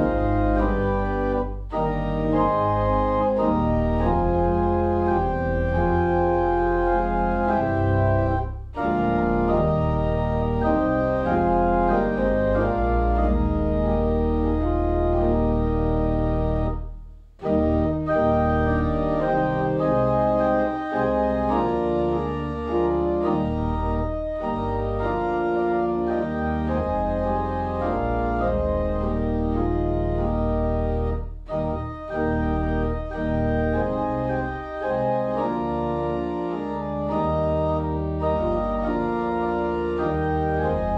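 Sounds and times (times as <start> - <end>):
church organ playing chords: 0.0 - 40.9.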